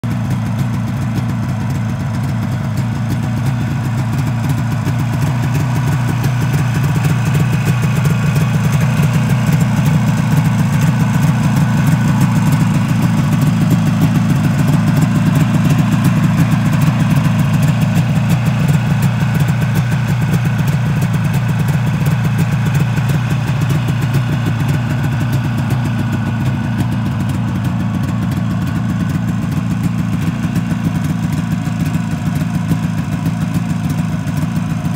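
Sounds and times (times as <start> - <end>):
snowmobile engine idling: 0.0 - 34.9.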